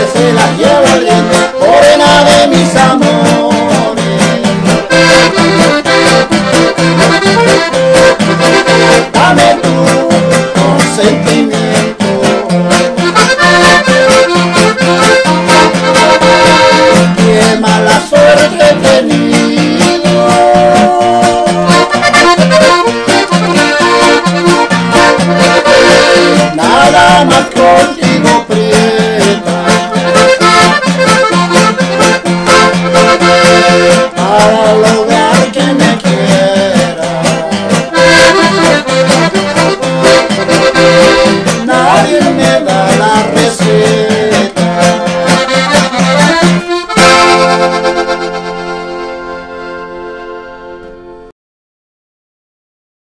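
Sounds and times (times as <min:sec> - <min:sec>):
accordion melody: 0:00.0 - 0:51.3
acoustic guitar strumming: 0:00.0 - 0:51.3.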